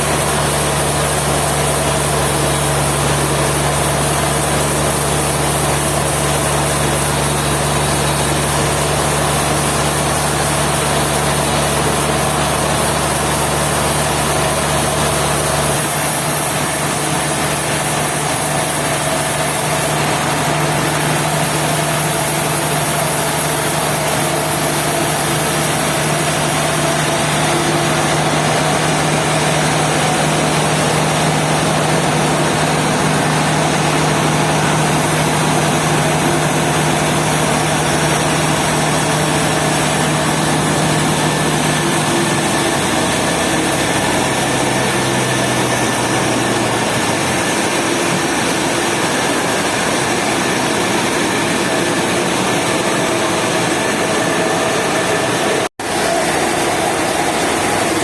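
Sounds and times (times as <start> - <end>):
sawmill engine humming: 0.0 - 58.0.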